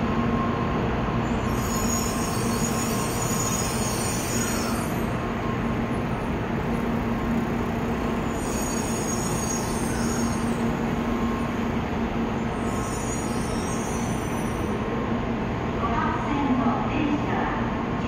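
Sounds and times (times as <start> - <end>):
train equipment humming: 0.0 - 15.9.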